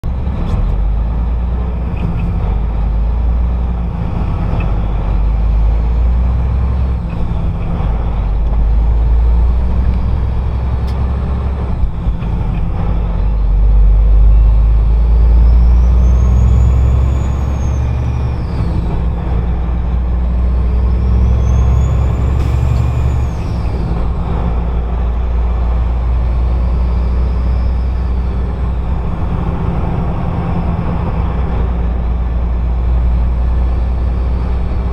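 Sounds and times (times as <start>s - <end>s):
vehicle engine rumble: 0.0s - 34.9s.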